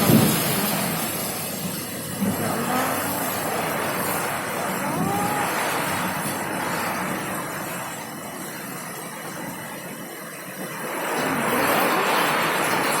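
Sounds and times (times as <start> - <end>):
heavy rain pouring: 0.0 - 13.0
strong wind: 0.0 - 13.0.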